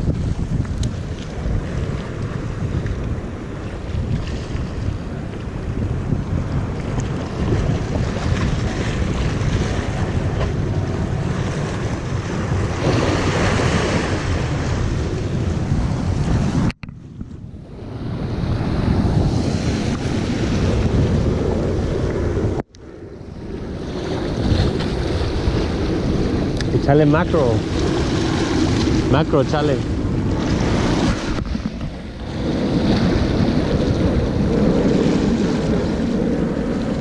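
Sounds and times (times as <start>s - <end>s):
sea waves breaking against boulders: 0.0s - 22.6s, 23.3s - 37.0s
wind buffeting microphone: 0.0s - 37.0s.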